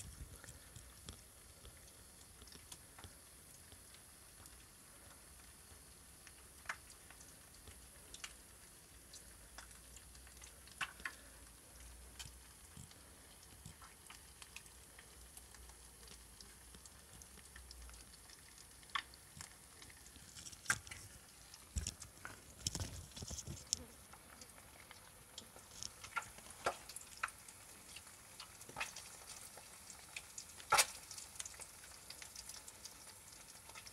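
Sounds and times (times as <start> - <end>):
eggs crackling and popping: 0.0 - 33.9.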